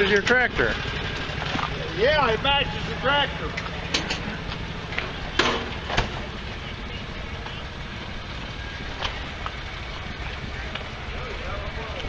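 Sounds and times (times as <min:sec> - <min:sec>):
tractor engines idling: 0:00.0 - 0:12.0.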